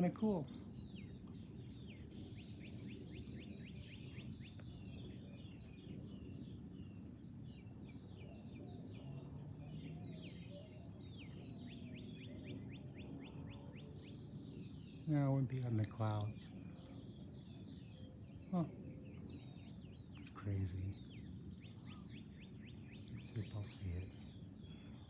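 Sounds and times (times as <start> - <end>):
birds singing: 0.0 - 25.0
low outdoor rumble: 0.0 - 25.0.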